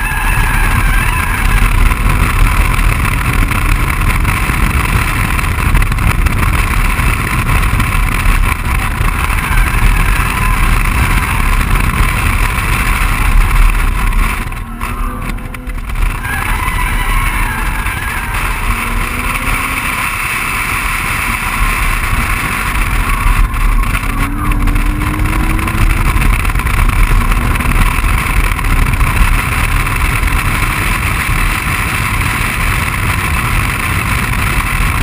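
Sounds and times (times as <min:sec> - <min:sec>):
car engine running hard: 0:00.0 - 0:35.0
wind and road rush: 0:00.0 - 0:35.0.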